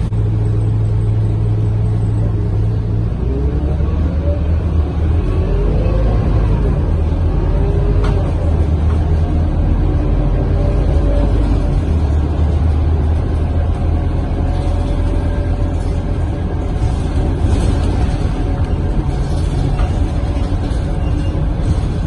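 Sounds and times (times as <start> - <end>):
bus engine rumble with whine: 0.0 - 22.0.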